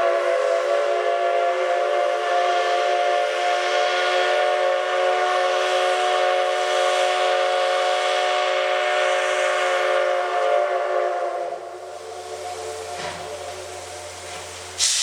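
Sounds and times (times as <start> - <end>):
steam locomotive whistle: 0.0 - 15.0.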